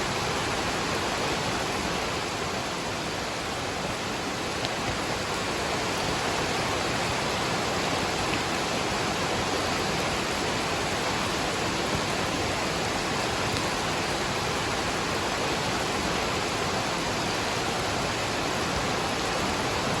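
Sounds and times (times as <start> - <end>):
rush of falling water: 0.0 - 20.0.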